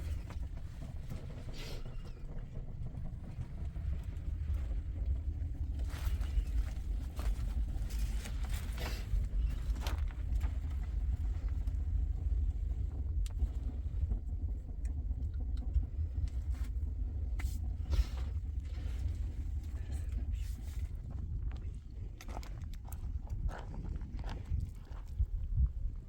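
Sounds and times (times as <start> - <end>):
faint clicks and rustles: 0.0 - 26.0
low rumble: 0.0 - 26.0.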